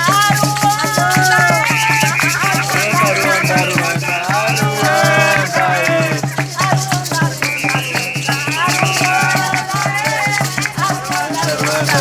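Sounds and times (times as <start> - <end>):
hand drums beating: 0.0 - 12.0
maracas shaking: 0.0 - 12.0
voices singing: 0.0 - 12.0.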